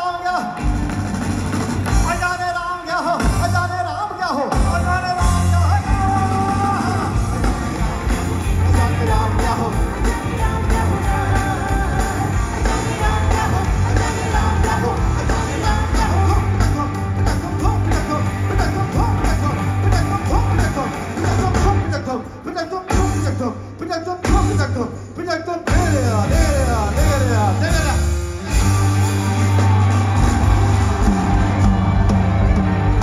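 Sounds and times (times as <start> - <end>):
live rock band playing: 0.1 - 25.0, 25.6 - 33.0
lead vocal singing: 2.0 - 33.0.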